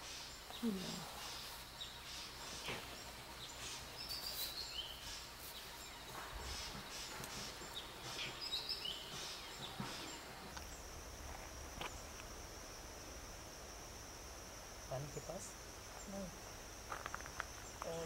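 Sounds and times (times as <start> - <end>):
birds chirping: 0.0 - 13.0, 14.6 - 18.0
high insect buzz: 0.0 - 18.0.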